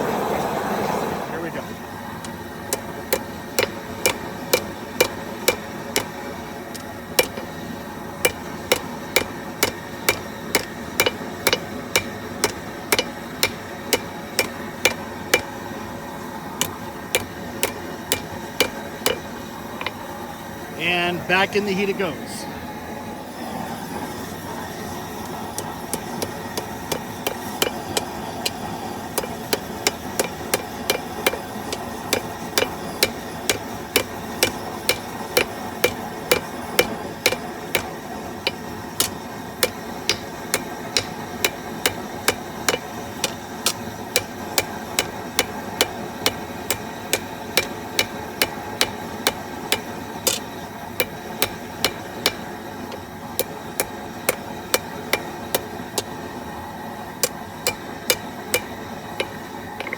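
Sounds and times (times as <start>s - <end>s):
gas forge burner rushing: 0.0s - 20.8s, 22.7s - 59.9s
hammer striking hot steel: 2.2s - 20.1s, 25.0s - 56.4s, 57.2s - 59.9s.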